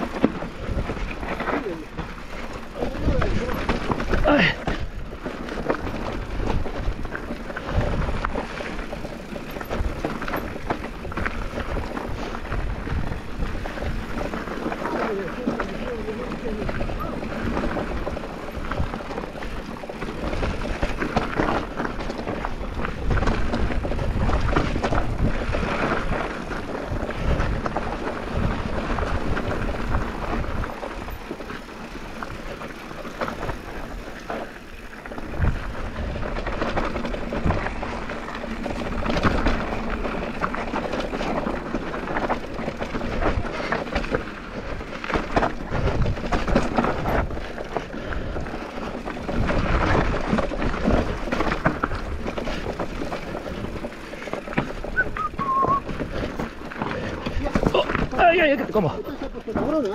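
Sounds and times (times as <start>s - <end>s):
wind rumble on microphone: 0.0s - 59.8s
bike rattling and knocking: 0.0s - 59.9s
tyres rolling over dirt and stones: 0.0s - 59.9s.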